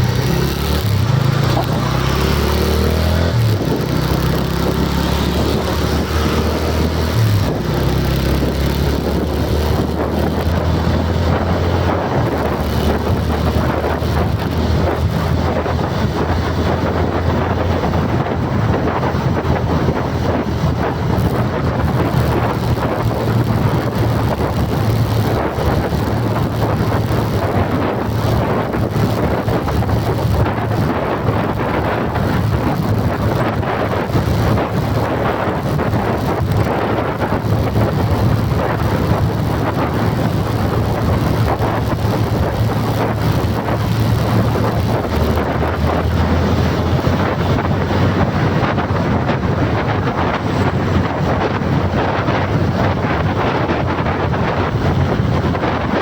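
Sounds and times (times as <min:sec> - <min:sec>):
vehicle humming: 0:00.0 - 0:56.0
wind noise on microphone: 0:00.0 - 0:56.0.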